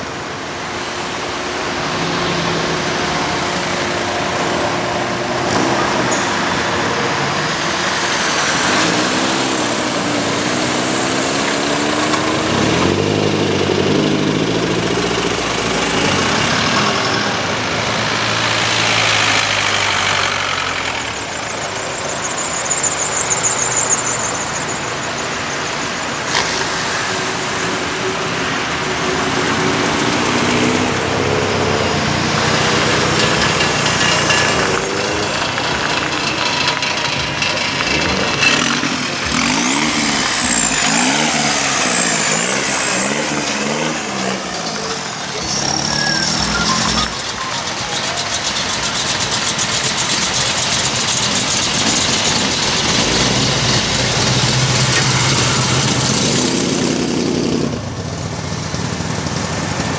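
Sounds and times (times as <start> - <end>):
cars driving past slowly: 0.0 - 59.9
deep car engine approaching: 0.0 - 59.9.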